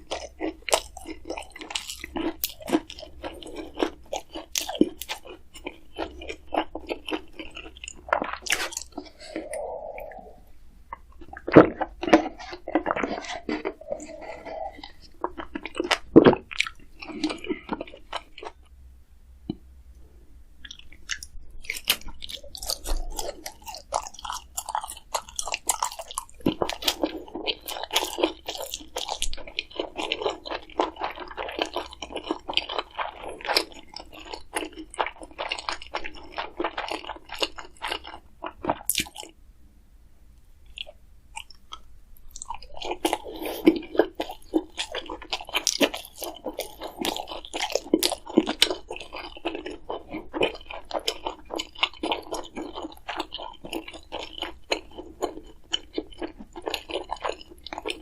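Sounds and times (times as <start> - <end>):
person chewing crisp food: 0.0 - 18.7, 20.6 - 39.4, 40.7 - 58.0.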